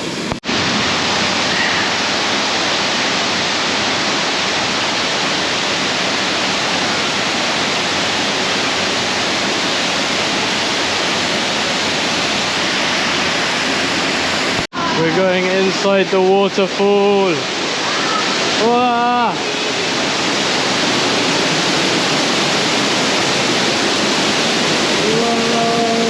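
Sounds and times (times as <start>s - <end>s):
large waterfall rushing: 0.0s - 26.0s.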